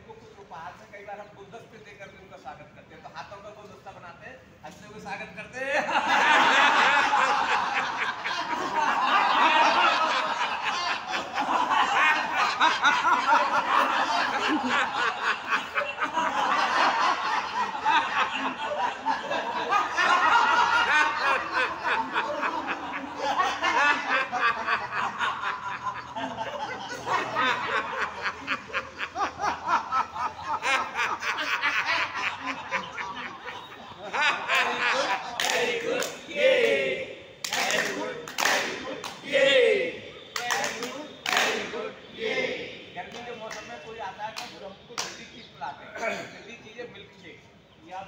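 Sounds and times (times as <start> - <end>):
group of people laughing: 5.5 - 46.4.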